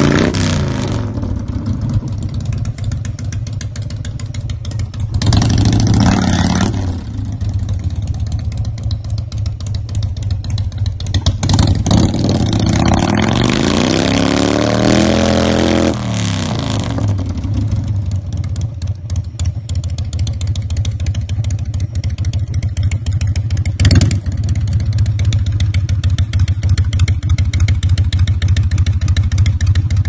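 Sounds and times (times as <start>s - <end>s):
motorcycle engine revving and idling: 0.0s - 30.0s.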